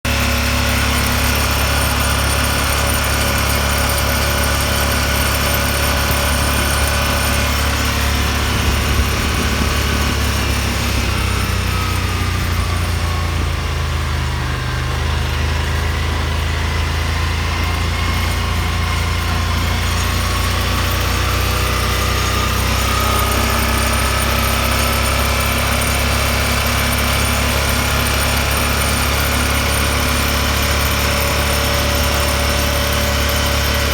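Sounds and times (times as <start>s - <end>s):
single-cylinder engine running: 0.0s - 33.9s
high mechanical whine: 0.1s - 33.9s.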